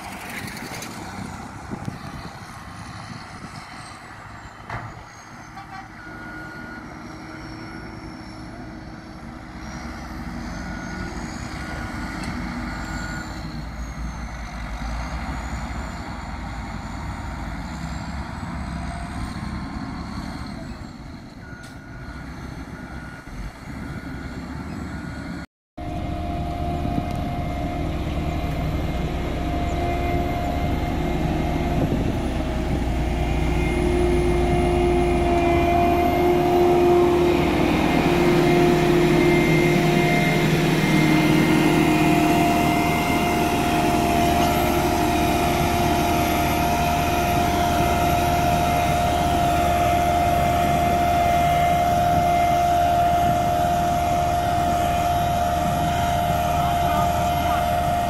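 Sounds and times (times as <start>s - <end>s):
diesel roller drone: 0.0s - 58.0s.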